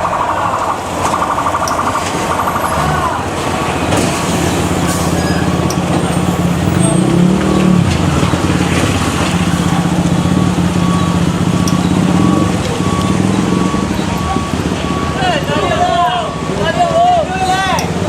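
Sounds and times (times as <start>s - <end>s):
heavy truck engine running: 0.0s - 18.0s.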